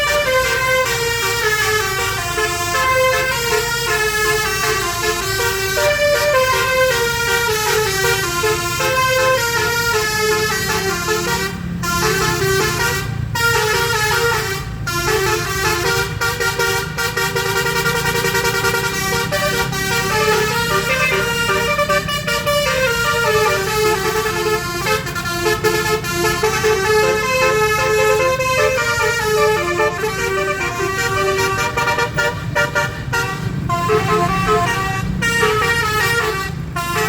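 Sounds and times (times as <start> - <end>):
bus musical air horn playing a tune: 0.0 - 37.0.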